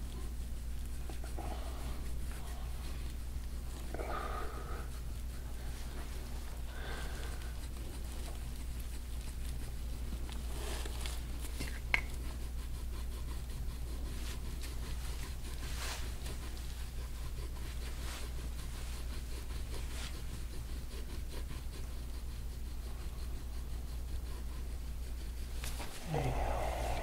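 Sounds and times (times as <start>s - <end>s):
low steady hum: 0.0s - 27.0s
scraping tool rubbing on skin: 0.0s - 27.0s.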